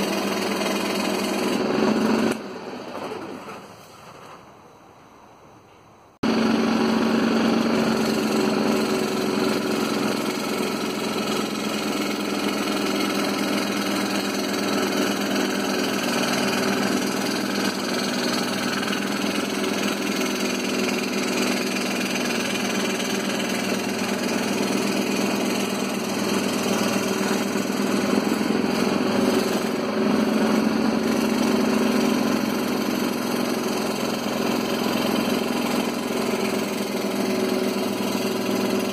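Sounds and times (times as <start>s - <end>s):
scroll saw cutting wood: 0.0s - 4.2s, 6.2s - 38.9s.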